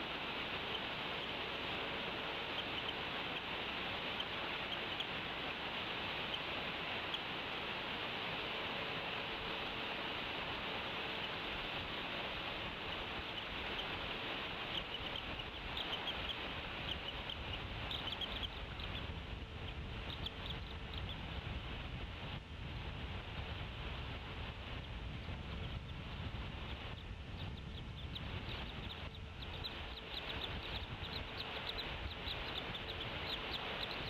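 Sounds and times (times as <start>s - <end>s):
eagle chicks peeping: 0.0s - 22.4s, 23.2s - 34.0s
steady outdoor hiss: 0.0s - 34.0s.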